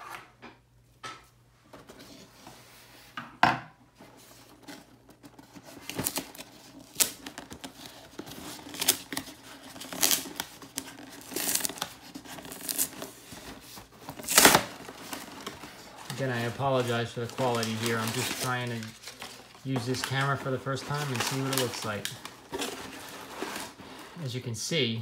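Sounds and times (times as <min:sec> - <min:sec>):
cardboard tearing and crinkling: 0:04.2 - 0:24.3.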